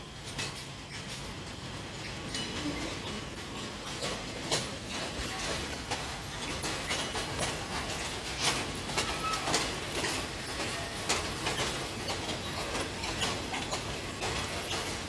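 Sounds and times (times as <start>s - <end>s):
low rumble of rolling coaches: 0.0s - 15.0s
train wheels clacking over rail joints: 0.0s - 15.0s.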